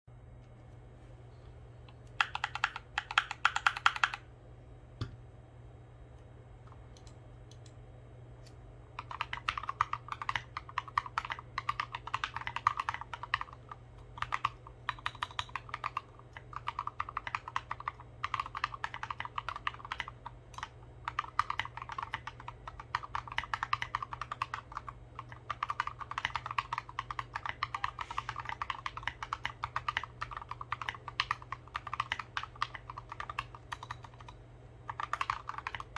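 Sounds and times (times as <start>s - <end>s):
low steady hum: 0.1s - 35.9s
mechanical keyboard typing: 2.2s - 4.3s, 9.0s - 35.9s.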